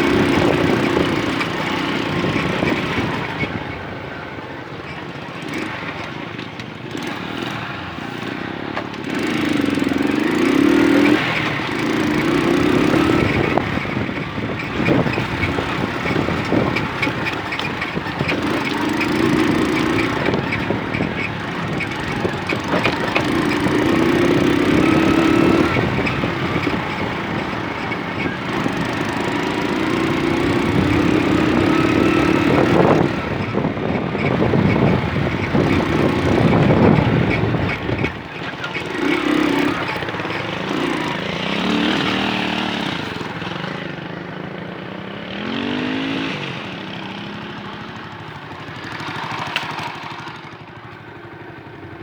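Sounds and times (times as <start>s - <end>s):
moped engine revving: 0.0s - 52.0s.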